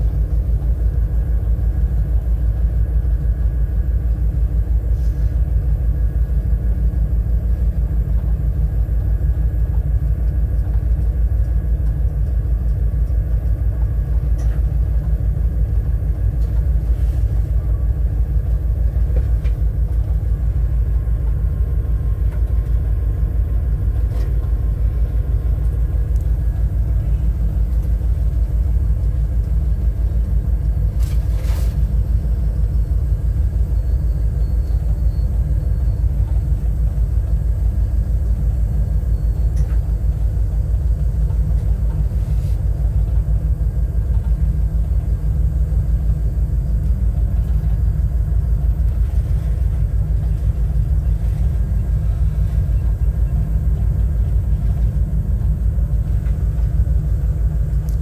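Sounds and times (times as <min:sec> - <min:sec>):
diesel locomotive rumbling: 0:00.0 - 0:58.0.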